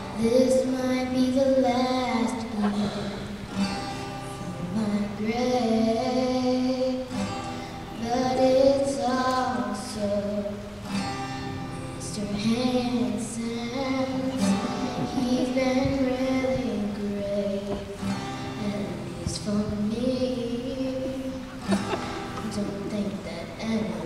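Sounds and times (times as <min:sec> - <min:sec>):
woman singing a slow song: 0:00.0 - 0:03.4, 0:04.3 - 0:10.7, 0:11.7 - 0:24.0
acoustic guitar: 0:00.0 - 0:24.0.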